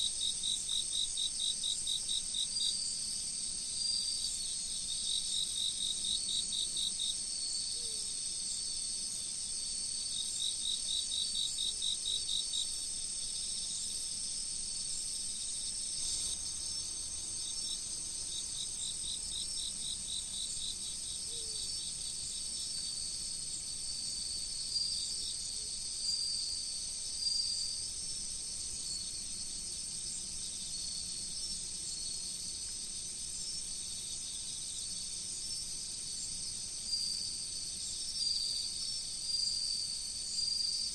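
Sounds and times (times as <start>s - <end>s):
crickets trilling: 0.0s - 40.9s
insect rapid chirps: 0.0s - 40.9s.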